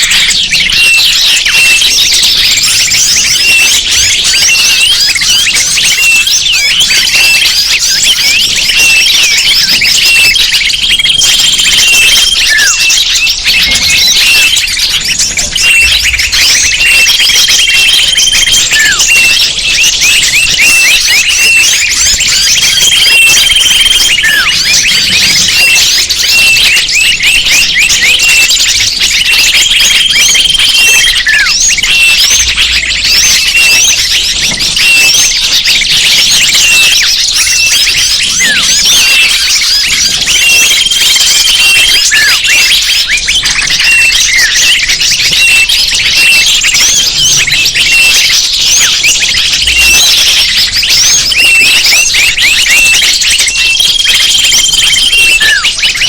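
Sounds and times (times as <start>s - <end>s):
small birds chirping chorus: 0.0s - 56.0s
high held whistle: 7.0s - 45.6s, 46.2s - 56.0s.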